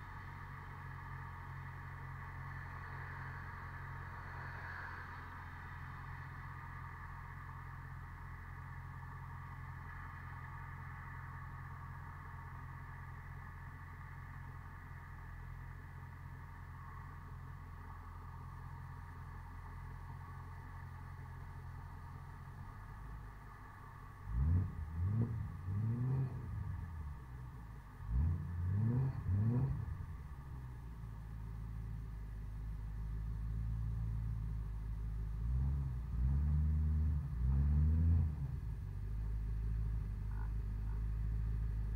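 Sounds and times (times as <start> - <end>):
car engine idling and revving: 0.0 - 41.9.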